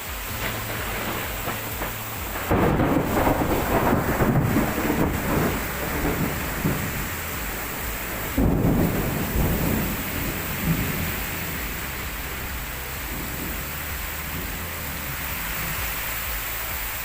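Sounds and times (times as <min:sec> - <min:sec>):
heavy rain: 0:00.0 - 0:17.0
wind gusting: 0:00.3 - 0:15.8.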